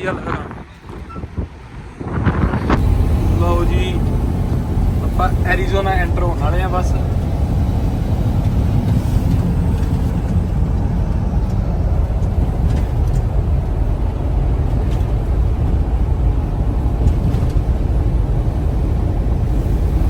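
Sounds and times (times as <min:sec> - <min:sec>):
road and wind rumble in vehicle: 0:00.0 - 0:20.0.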